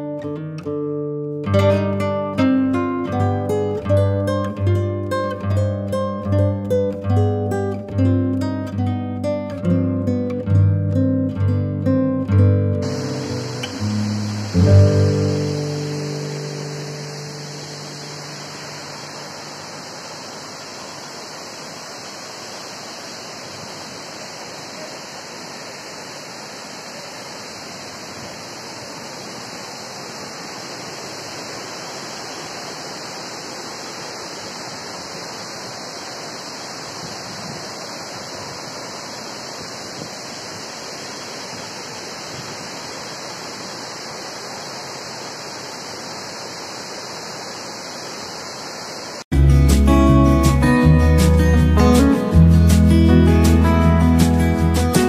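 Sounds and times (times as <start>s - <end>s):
waterfall rushing: 1.5s - 10.3s, 12.3s - 55.0s.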